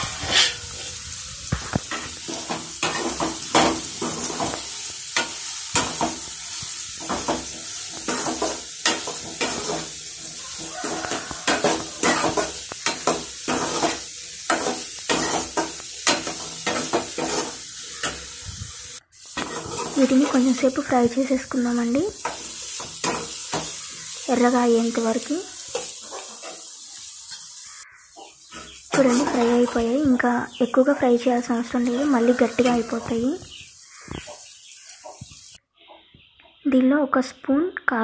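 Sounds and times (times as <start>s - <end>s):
metal spatula scraping a pan: 0.0s - 20.7s, 22.2s - 30.0s, 31.8s - 35.6s
food sizzling in hot oil: 0.0s - 35.6s.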